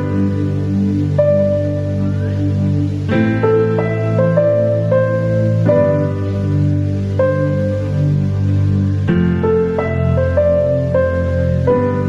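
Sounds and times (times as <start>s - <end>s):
gentle melody over low chords: 0.0s - 12.0s.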